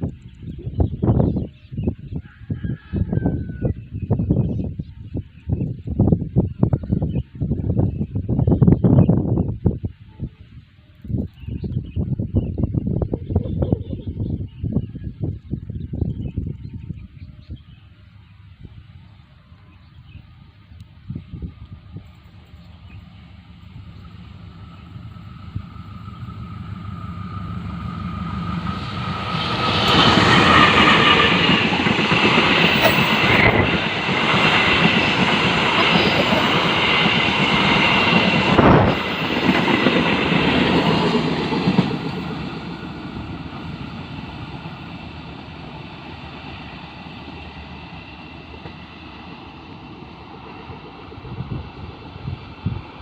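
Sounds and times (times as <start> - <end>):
train passing at high speed: 0.0 - 53.0.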